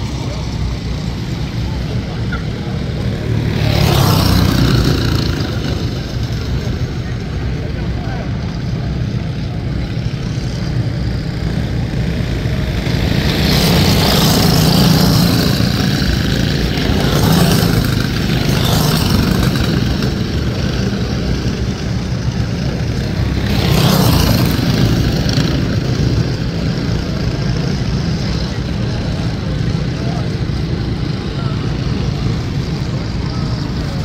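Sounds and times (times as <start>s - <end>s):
go-kart engines running: 0.0s - 34.0s.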